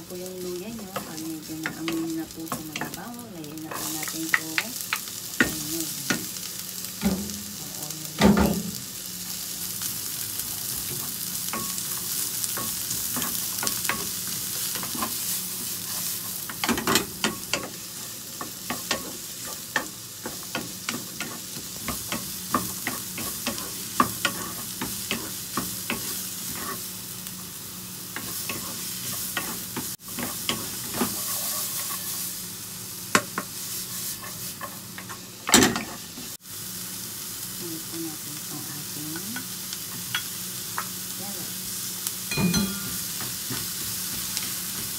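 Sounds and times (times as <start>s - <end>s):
onion sizzling in oil: 0.0s - 44.9s.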